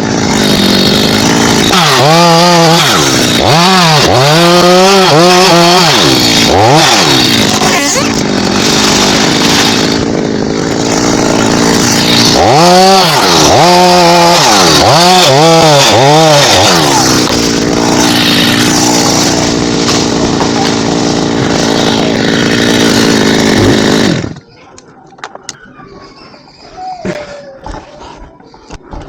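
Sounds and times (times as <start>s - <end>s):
chainsaw engine revving: 0.0s - 24.4s.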